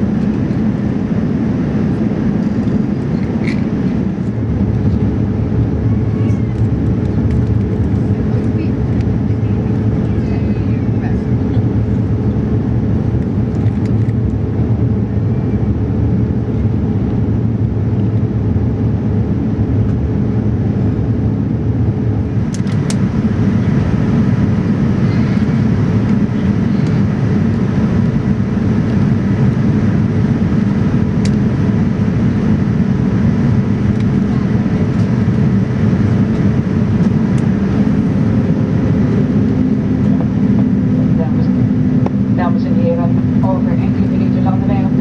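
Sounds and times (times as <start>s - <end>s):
airliner cabin engine rush: 0.0s - 45.0s.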